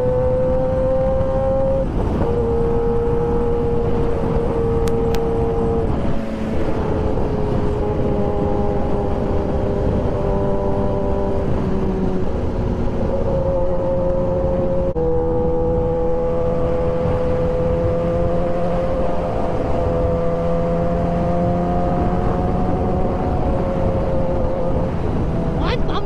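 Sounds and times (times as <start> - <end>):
motorcycle engine running hard: 0.0 - 26.0
wind rush: 0.0 - 26.0.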